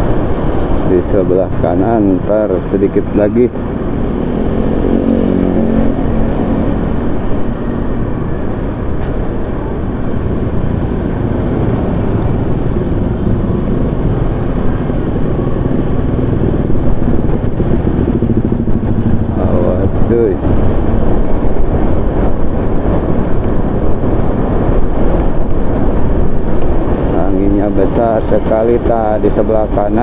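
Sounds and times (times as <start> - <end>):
road and wind noise: 0.0 - 30.0
vehicle engine drone: 0.0 - 30.0.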